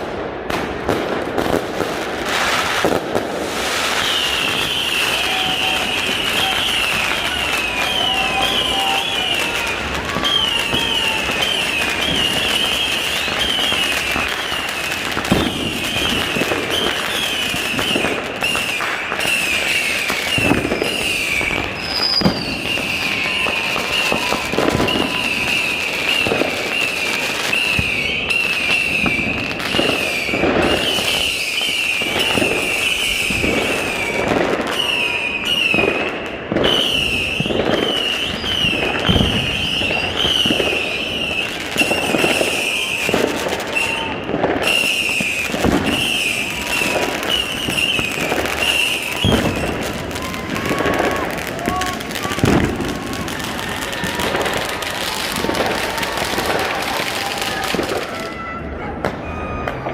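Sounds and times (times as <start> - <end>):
firework bangs: 0.0 - 59.9
high warbling firework whistle: 2.2 - 59.9.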